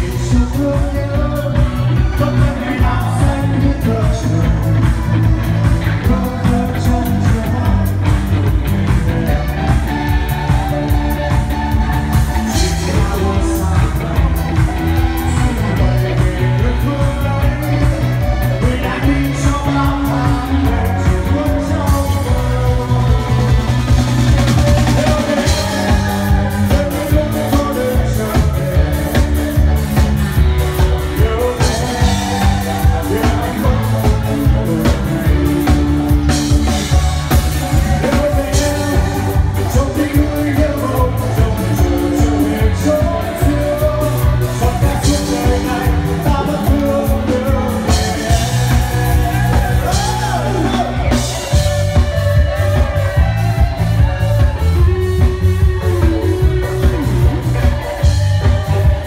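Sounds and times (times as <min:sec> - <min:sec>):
bass: 0:00.0 - 0:59.0
drums: 0:00.0 - 0:59.0
live pop band: 0:00.0 - 0:59.0
man singing through a microphone: 0:00.0 - 0:59.0.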